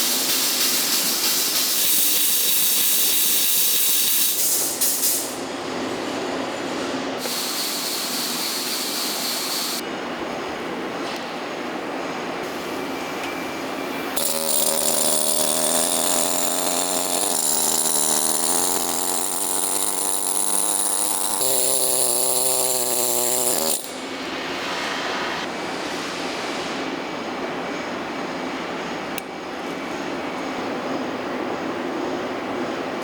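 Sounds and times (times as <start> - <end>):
machine whine and hiss: 0.0 - 33.0.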